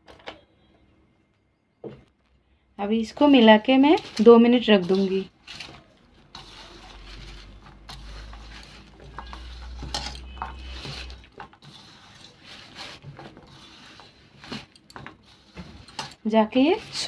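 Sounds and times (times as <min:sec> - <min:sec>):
hand scraping in steel bowl: 0:03.0 - 0:17.0.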